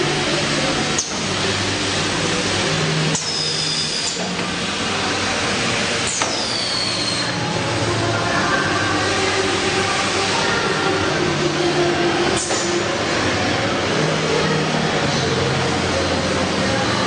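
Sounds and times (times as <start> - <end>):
machine running: 0.0 - 17.0.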